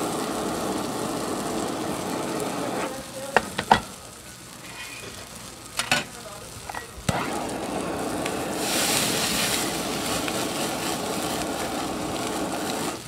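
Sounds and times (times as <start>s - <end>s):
blowtorch flame roaring: 0.0s - 13.0s
low sizzle from griddle: 0.0s - 13.0s.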